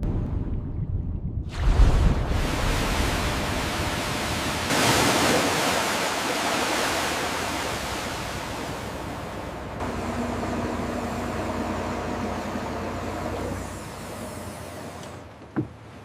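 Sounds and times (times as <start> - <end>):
rushing water: 1.5 - 16.0.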